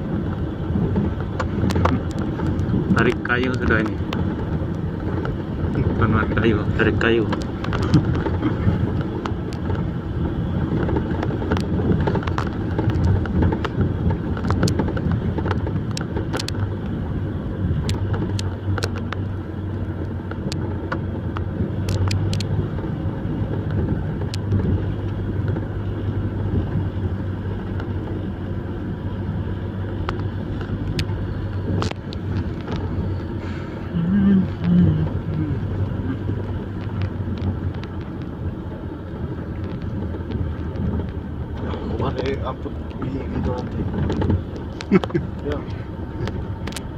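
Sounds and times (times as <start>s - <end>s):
truck engine running under load: 0.0s - 46.9s.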